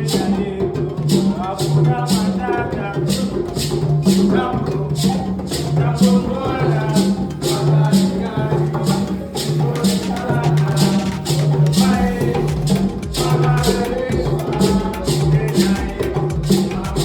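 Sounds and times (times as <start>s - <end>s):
repeating bass line: 0.0s - 17.0s
shaker beat: 0.0s - 17.0s
upbeat music: 0.0s - 17.0s
wavering melody: 0.0s - 17.0s.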